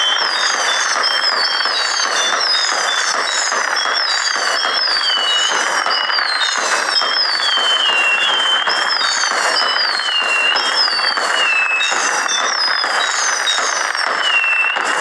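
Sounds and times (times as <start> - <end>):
firework whistles sliding down: 0.0 - 15.0
fireworks crackling: 0.0 - 15.0.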